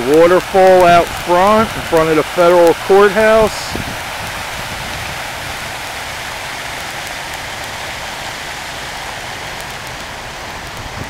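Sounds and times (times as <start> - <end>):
fountain water splashing into pool: 0.0 - 11.0.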